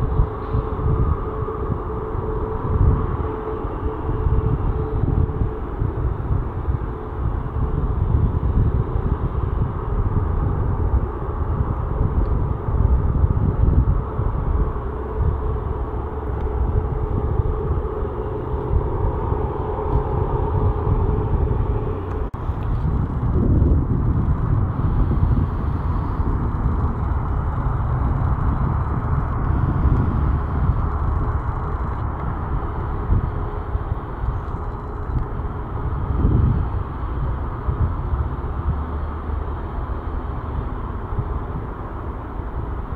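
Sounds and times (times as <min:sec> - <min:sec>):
distant jet engines idling: 0:00.0 - 0:42.9.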